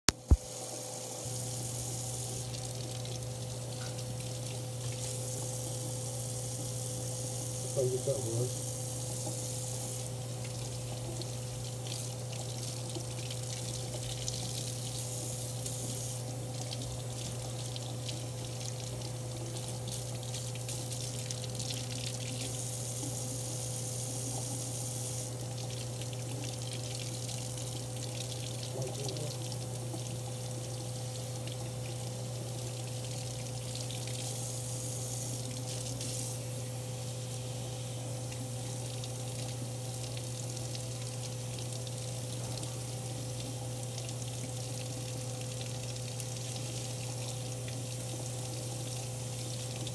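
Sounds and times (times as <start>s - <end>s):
faucet water running into sink: 0.1s - 49.9s.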